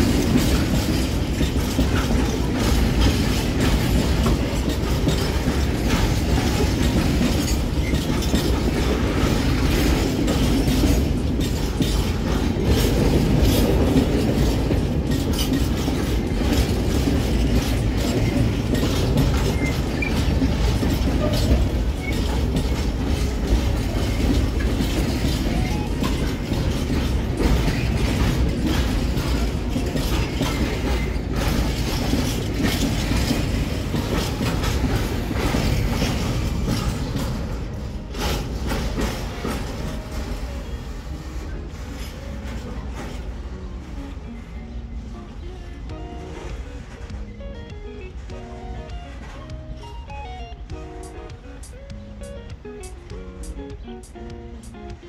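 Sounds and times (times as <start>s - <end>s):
train wheels rumbling on rail: 0.0s - 55.0s
wheels clicking over track: 0.0s - 55.0s.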